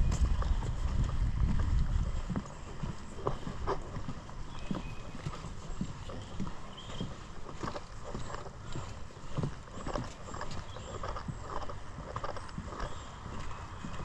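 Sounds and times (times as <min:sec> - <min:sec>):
footsteps on a trail: 0:00.0 - 0:14.0.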